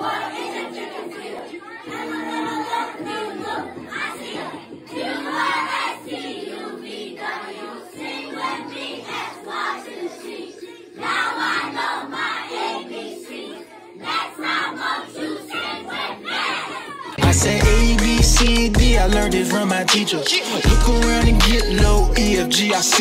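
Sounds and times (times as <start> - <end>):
children shouting and cheering: 0.0 - 19.1.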